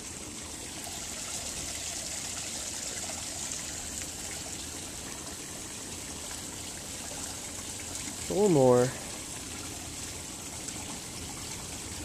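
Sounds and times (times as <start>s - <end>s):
waterfall trickling into pond: 0.0s - 12.0s.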